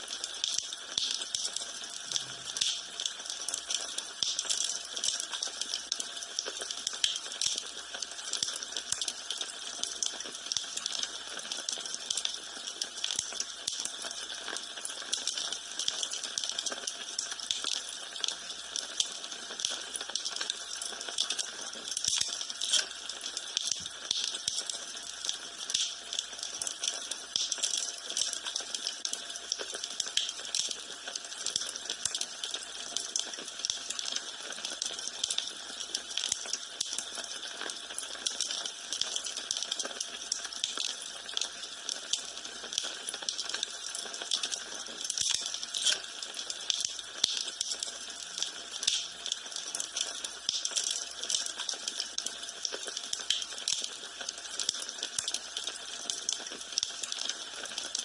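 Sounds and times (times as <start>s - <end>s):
wood fire crackling and hissing: 0.0s - 58.0s.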